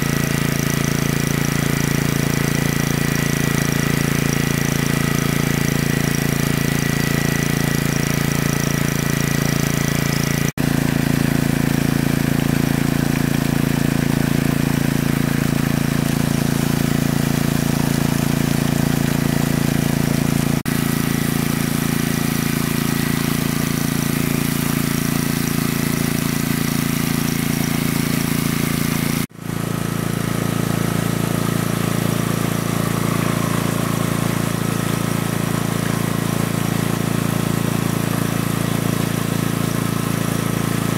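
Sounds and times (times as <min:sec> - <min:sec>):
water pump engine running: 0:00.0 - 0:40.9.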